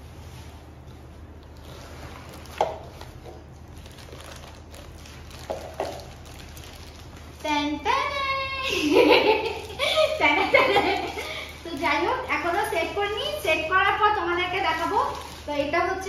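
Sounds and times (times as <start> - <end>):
bag and plastic rustling: 0.0 - 16.0.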